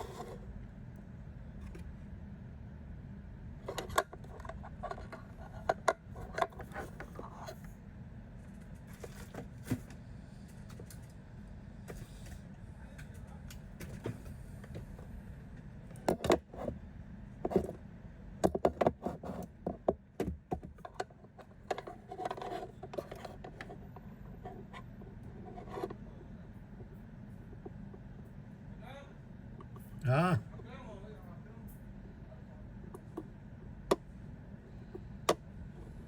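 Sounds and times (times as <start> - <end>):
steady low hum: 0.0 - 9.0, 9.7 - 36.0.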